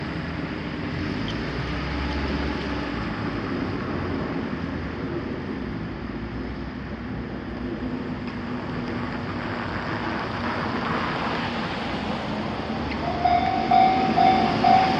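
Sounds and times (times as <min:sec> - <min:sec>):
vehicle rumble with low hum: 0:00.0 - 0:14.9.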